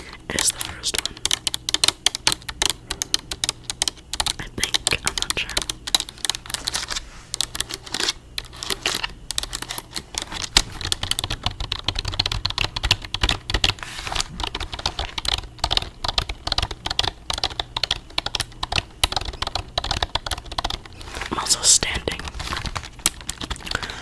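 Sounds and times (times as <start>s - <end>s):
rapid keyboard typing: 0.0s - 24.0s.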